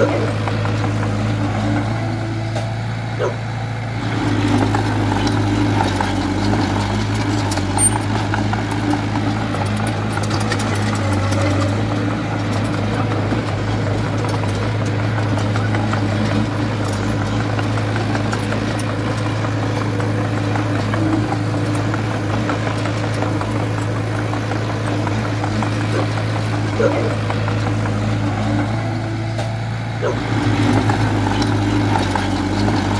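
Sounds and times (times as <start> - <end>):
bulldozer diesel engine running: 0.0 - 32.9.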